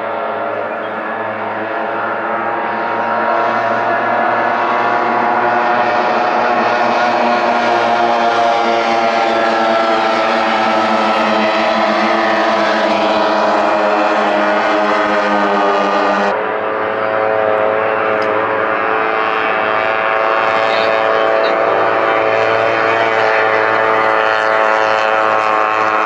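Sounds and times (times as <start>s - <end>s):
outboard motor running flat out: 0.0s - 26.0s.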